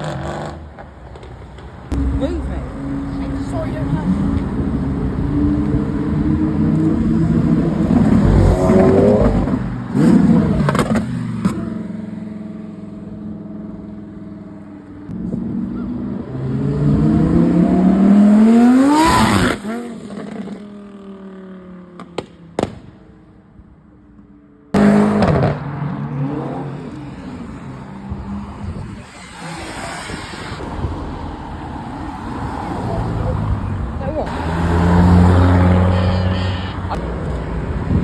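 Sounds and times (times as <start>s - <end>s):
car engines revving: 0.0s - 22.3s, 24.7s - 38.0s.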